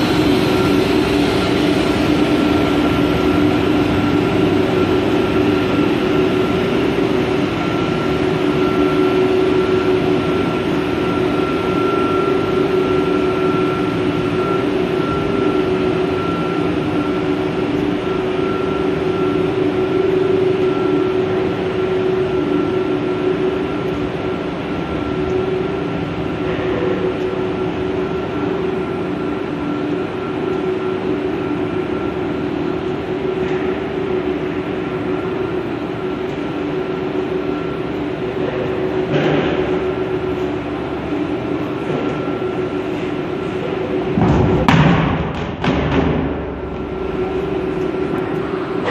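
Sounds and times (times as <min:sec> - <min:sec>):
machinery drone: 0:00.0 - 0:48.9.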